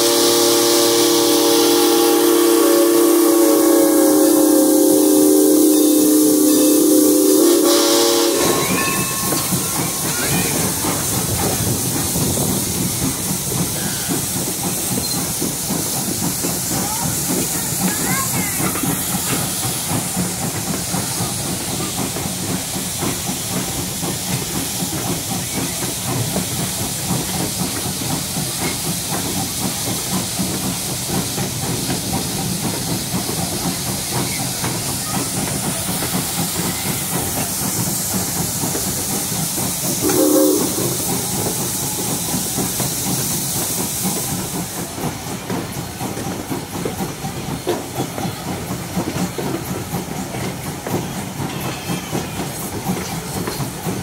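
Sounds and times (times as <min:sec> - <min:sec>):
steam locomotive hissing: 0:00.0 - 0:54.0
train rumble: 0:00.0 - 0:54.0.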